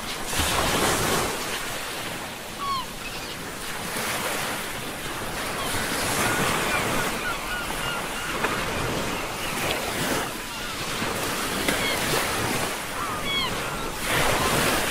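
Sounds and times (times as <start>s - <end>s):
ocean surf washing: 0.0s - 14.9s.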